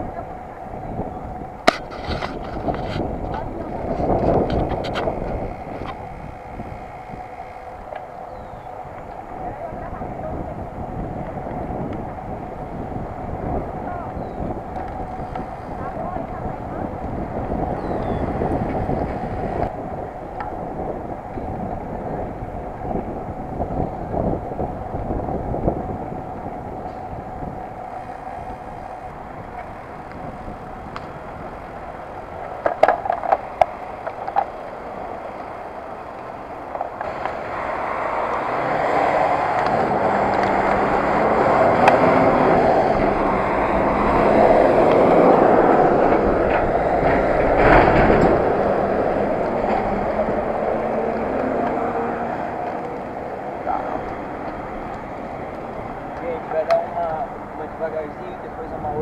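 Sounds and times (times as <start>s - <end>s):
bike tyres rolling on asphalt: 0.0s - 59.0s
wind on microphone: 0.0s - 59.0s.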